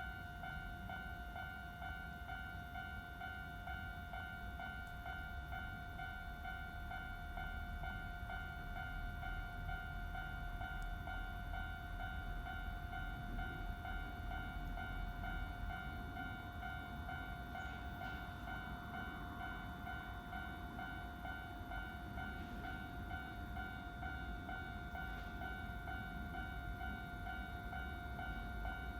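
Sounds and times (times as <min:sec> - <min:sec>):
level crossing alarm bell: 0:00.0 - 0:28.9.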